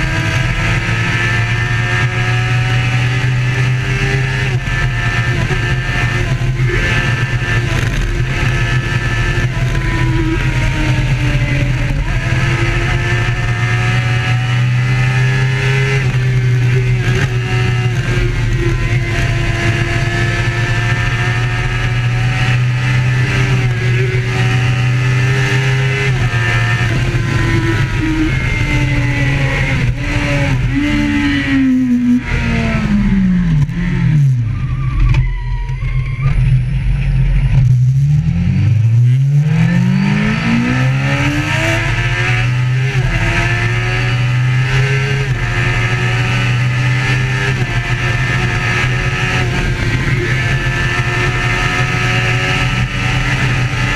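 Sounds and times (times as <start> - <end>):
steady low drone: 0.0 - 53.7
motorbike engine: 0.0 - 53.9.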